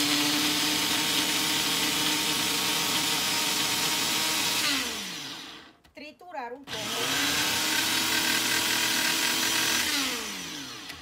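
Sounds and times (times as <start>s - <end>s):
blender grinding almonds: 0.0s - 5.8s, 6.7s - 11.0s.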